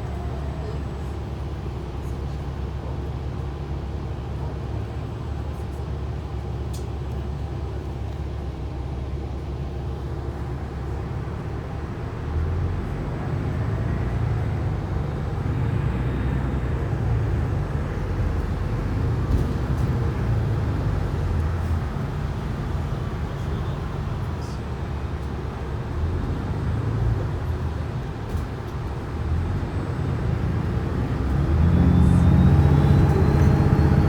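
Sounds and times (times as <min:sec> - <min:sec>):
bus engine rumble: 0:00.0 - 0:34.0.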